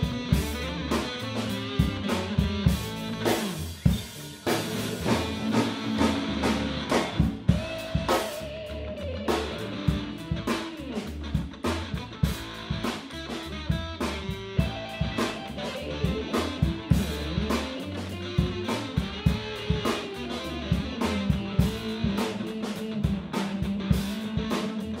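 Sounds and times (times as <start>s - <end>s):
drum kit beat: 0.0s - 25.0s
guitar: 0.0s - 25.0s.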